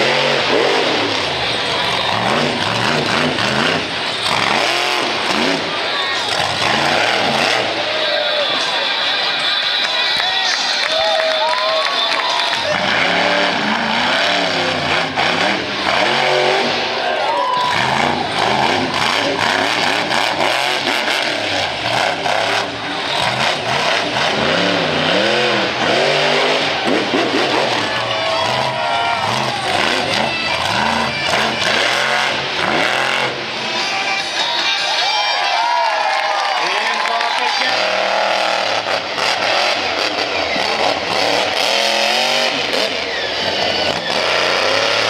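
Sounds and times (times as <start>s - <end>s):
monster truck engine revving: 0.0s - 45.0s.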